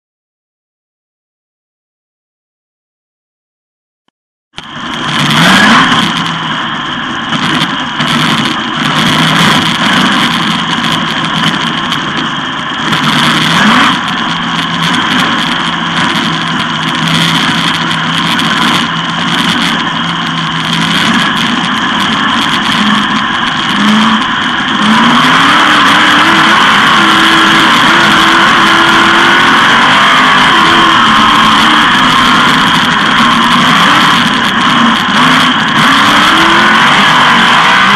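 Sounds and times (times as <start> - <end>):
race car engine revving: 4.6 - 37.9.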